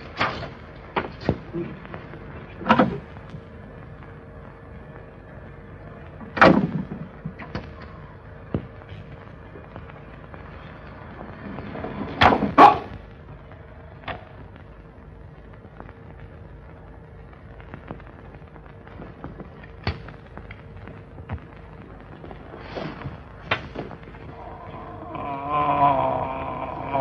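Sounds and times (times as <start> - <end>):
electric crackling bursts: 0.0 - 27.0
faint steady hum: 0.0 - 27.0.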